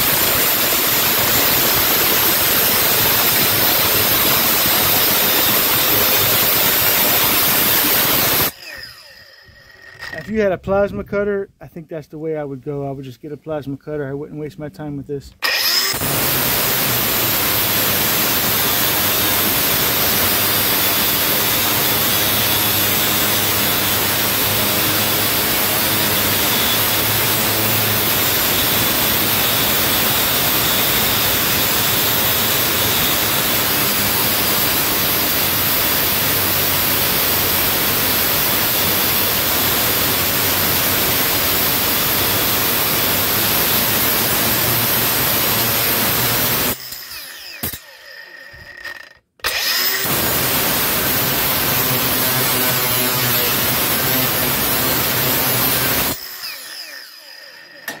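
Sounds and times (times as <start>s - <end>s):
angle grinder cutting metal: 0.0s - 10.4s, 15.4s - 58.0s.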